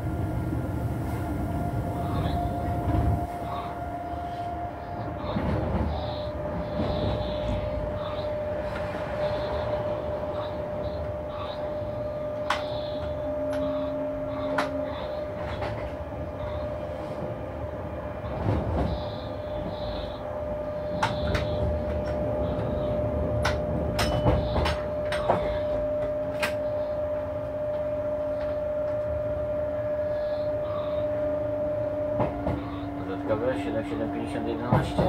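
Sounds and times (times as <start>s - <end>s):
electric locomotive whine and rumble: 0.0s - 35.0s.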